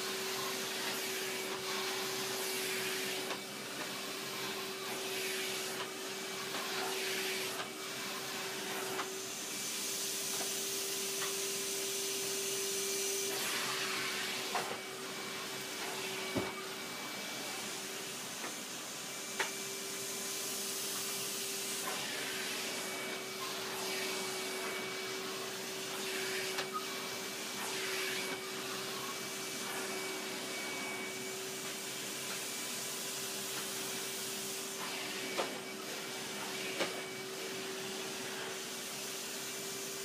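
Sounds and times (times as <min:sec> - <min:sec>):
vacuum cleaner running: 0:00.0 - 0:40.0.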